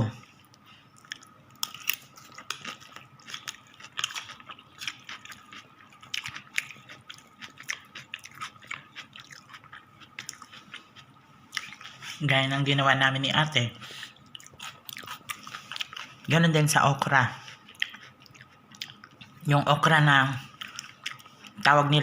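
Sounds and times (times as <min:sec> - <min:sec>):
person chewing salad: 0:00.2 - 0:12.3, 0:14.0 - 0:19.5, 0:20.4 - 0:21.7.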